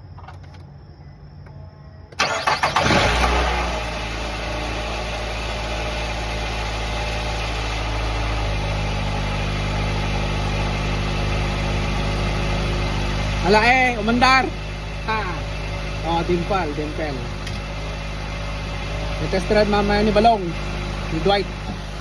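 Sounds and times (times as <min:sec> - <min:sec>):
car engine starting and idling: 0:02.1 - 0:22.0.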